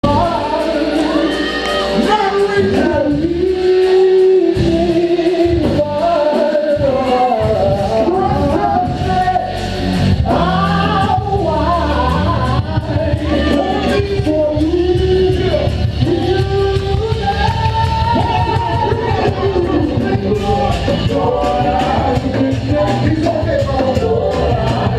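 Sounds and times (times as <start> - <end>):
music with singing: 0.0 - 24.9
steady beat: 0.0 - 24.9.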